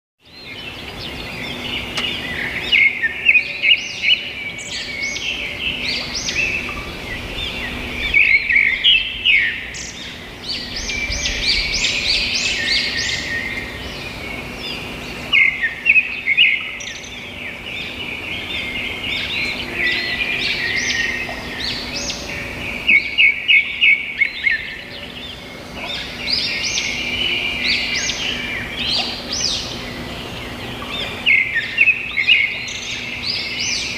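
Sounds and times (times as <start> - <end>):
birds singing and chirping: 0.2 - 33.9.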